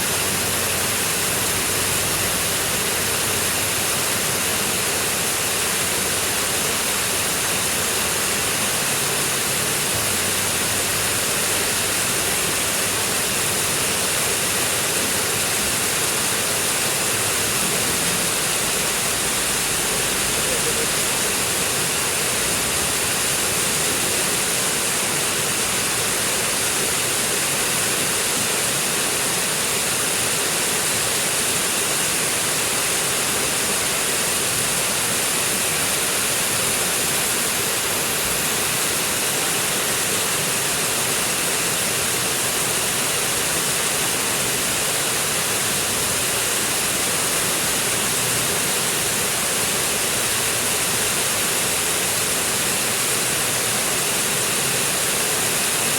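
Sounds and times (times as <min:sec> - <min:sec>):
stream rushing: 0:00.0 - 0:55.9.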